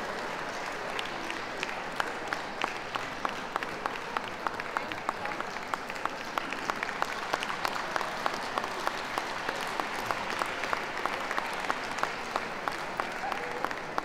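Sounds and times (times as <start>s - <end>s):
crowd applauding: 0.0s - 14.0s
sharp hand claps: 0.0s - 14.0s.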